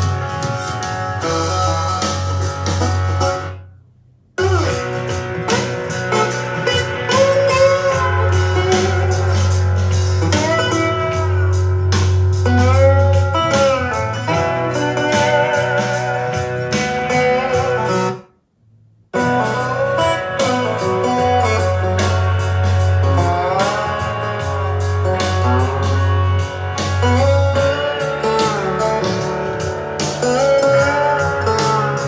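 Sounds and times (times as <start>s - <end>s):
music with heavy bass and drums: 0.0s - 3.7s, 4.4s - 18.3s, 19.1s - 32.0s
wavering guitar lead: 0.0s - 3.7s, 4.4s - 18.3s, 19.2s - 32.0s.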